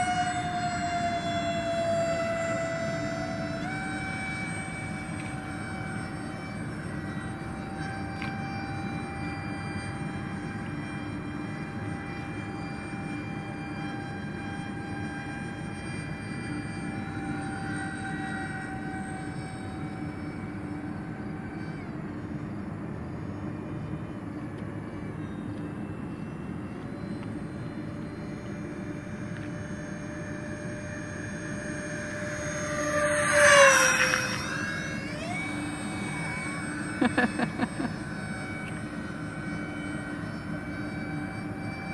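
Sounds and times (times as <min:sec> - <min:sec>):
model airplane ducted fans whining: 0:00.0 - 0:41.9.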